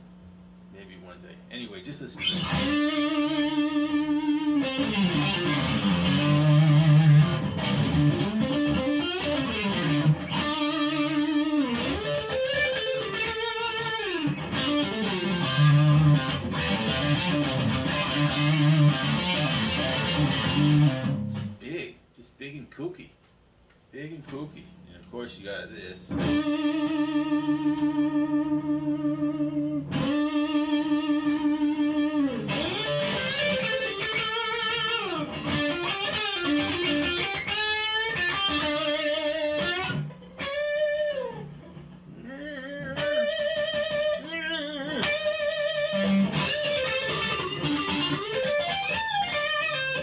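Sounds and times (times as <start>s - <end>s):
electric guitar lead with vibrato: 2.2s - 21.5s, 26.1s - 41.7s, 42.5s - 50.0s.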